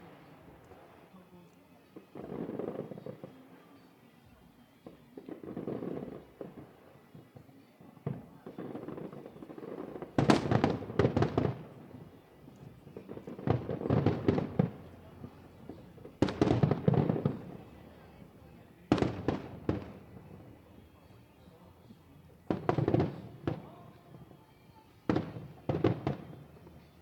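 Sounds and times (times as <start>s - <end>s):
light fireworks pops: 0.0s - 27.0s
fireworks crackling bangs: 2.0s - 3.9s, 4.8s - 27.0s.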